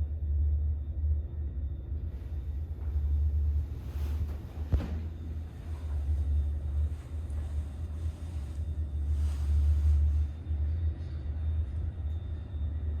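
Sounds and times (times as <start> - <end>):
elevator drive humming: 0.0 - 13.0.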